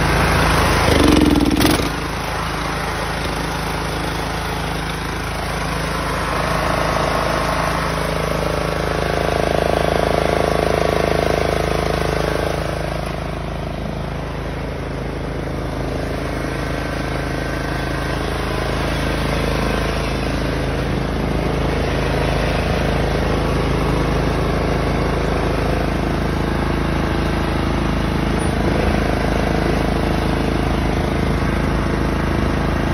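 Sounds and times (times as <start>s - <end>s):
riding lawn mower engine: 0.0s - 32.9s.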